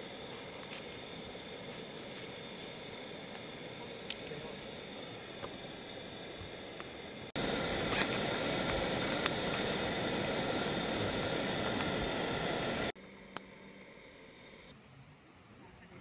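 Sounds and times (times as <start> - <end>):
stew boiling in a pot: 0.0 - 14.7.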